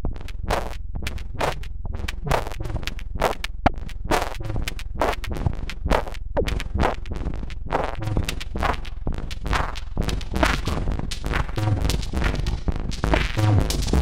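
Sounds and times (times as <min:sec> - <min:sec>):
electronic rhythm of noisy hits: 0:00.0 - 0:14.0
steady low hum: 0:00.0 - 0:14.0.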